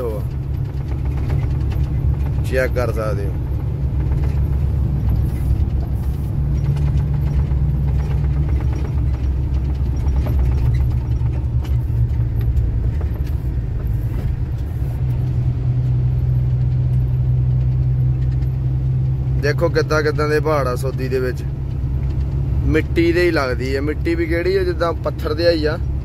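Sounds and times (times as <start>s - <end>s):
diesel truck engine drone: 0.0s - 26.0s
road noise: 0.0s - 26.0s.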